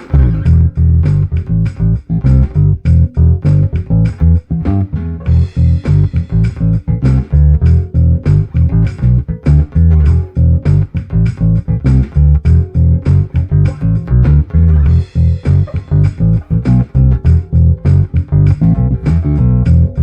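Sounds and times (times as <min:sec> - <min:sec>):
drum loop: 0:00.0 - 0:20.0
electric bass line: 0:00.0 - 0:20.0.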